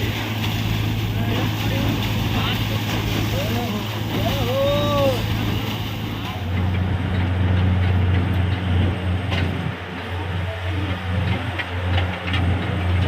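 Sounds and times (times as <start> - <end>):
drilling rig engine droning: 0.0 - 13.0.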